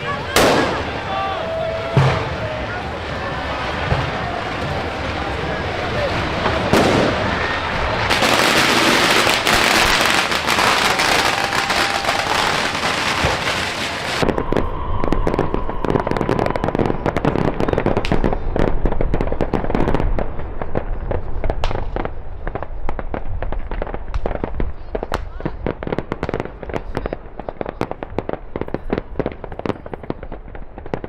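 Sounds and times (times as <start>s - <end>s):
firework crackling hiss: 0.0s - 27.0s
firecracker bangs: 0.3s - 31.0s.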